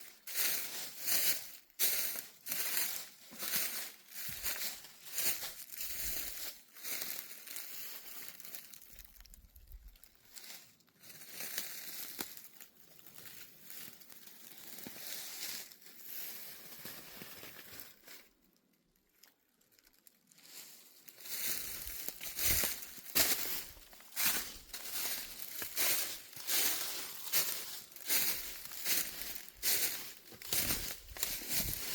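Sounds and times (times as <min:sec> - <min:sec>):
footsteps crunching dry leaves: 0:00.0 - 0:18.3, 0:20.3 - 0:31.9.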